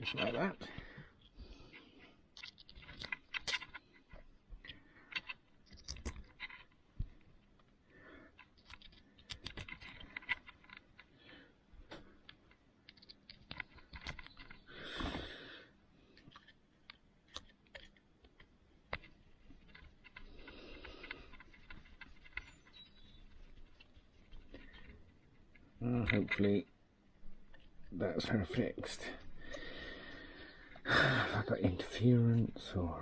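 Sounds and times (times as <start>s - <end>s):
small plastic parts clicking: 2.0s - 15.2s, 16.2s - 32.6s.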